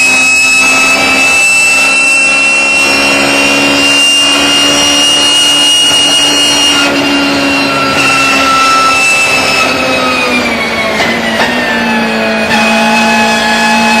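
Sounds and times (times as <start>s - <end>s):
gearbox whine: 0.0s - 14.0s
race car engine: 0.0s - 14.0s.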